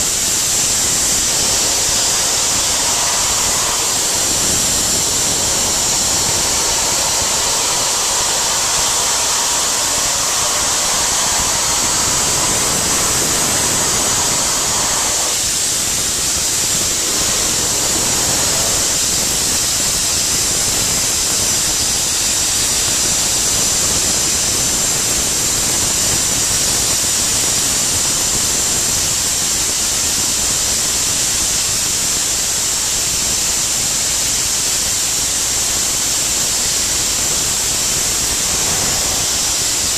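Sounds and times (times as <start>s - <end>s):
soda blaster nozzle hissing: 0.0s - 39.9s.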